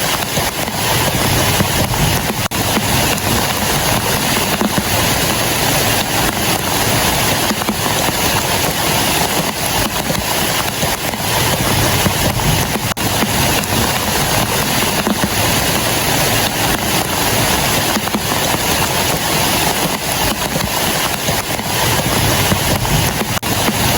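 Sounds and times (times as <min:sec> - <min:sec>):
rain on a plastic sheet: 0:00.0 - 0:23.9.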